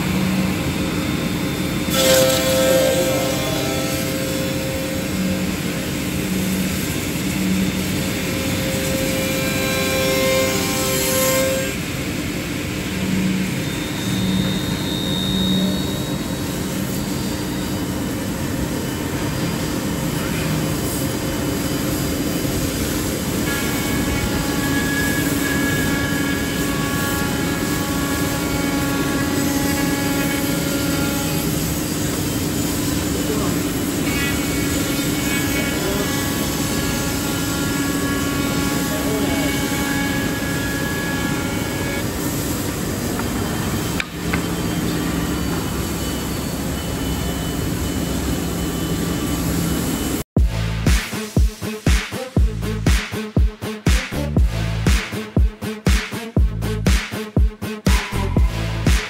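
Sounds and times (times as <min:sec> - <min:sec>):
router spindles whining: 0:00.0 - 0:11.9, 0:12.7 - 0:50.2.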